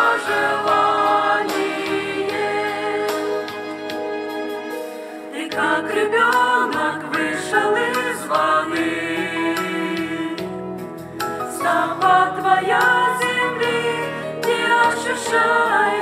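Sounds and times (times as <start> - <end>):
choir singing a hymn: 0.0 - 3.8, 5.2 - 10.8, 11.4 - 16.0.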